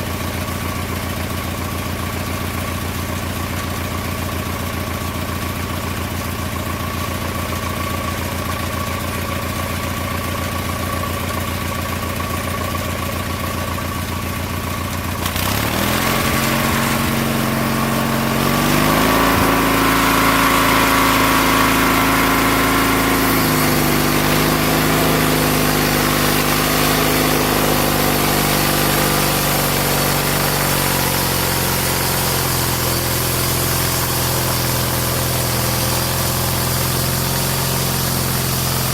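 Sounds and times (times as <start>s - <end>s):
small engine idling and revving: 0.0s - 38.9s.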